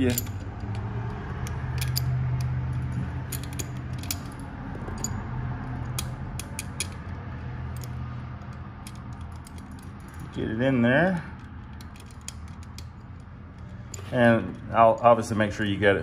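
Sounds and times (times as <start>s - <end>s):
small metallic clicks and rubbing: 0.0s - 10.4s, 11.4s - 15.2s
steady low hum: 0.0s - 16.0s.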